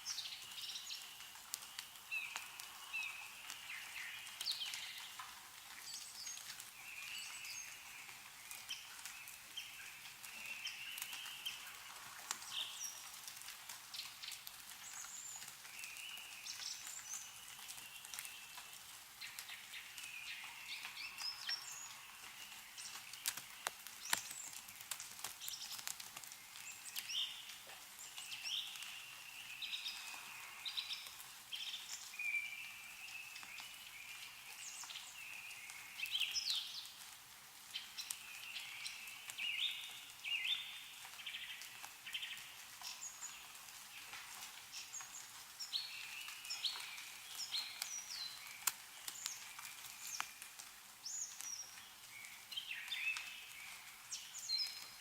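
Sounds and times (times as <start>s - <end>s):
meltwater dripping from trees: 0.0s - 55.0s
songbirds chirping: 0.0s - 55.0s.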